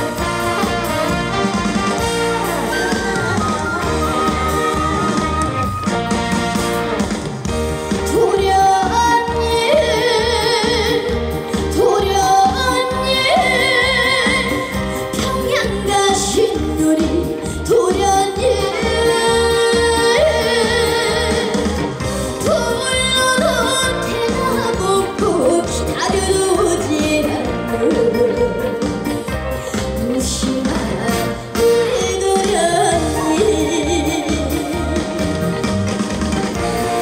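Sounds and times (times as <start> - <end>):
amplified backing music: 0.0 - 37.0
woman singing with vibrato: 2.1 - 5.8, 8.1 - 29.3, 30.0 - 35.7.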